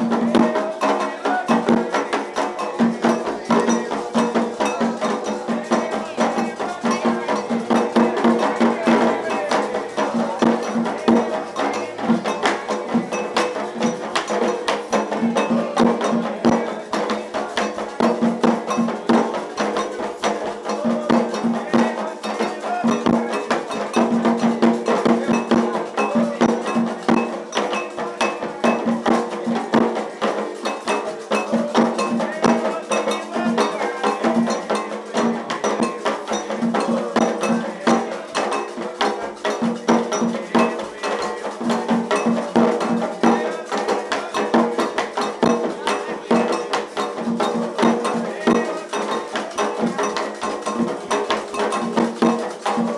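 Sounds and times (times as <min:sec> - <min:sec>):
hand drums: 0:00.0 - 0:52.9
metal bell rhythm: 0:00.0 - 0:52.9
voices singing: 0:00.0 - 0:52.9.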